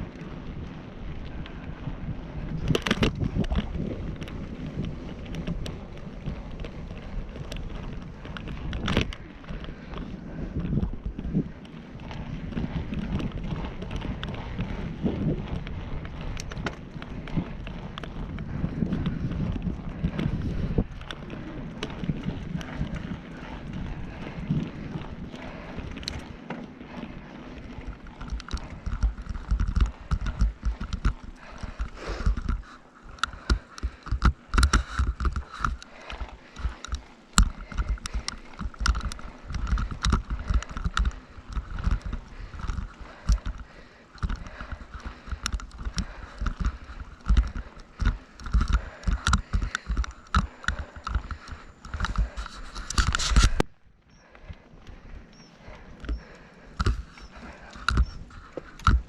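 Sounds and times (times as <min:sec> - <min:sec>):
rapid clicking and rattling: 0:00.0 - 0:53.7, 0:54.5 - 0:59.0
wind buffeting microphone: 0:00.0 - 0:59.0.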